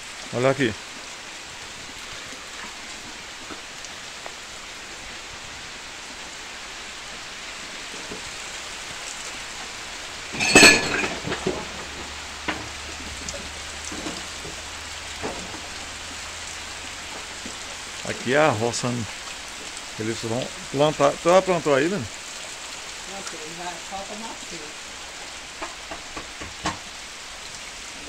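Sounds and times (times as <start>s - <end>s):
heavy rain on plants: 0.0s - 28.0s.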